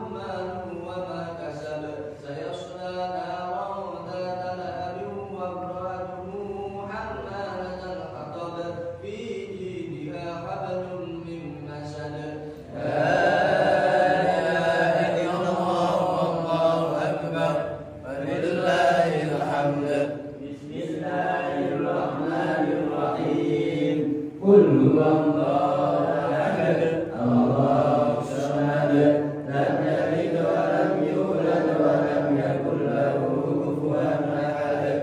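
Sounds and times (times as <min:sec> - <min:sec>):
man chanting: 0:00.0 - 0:35.0.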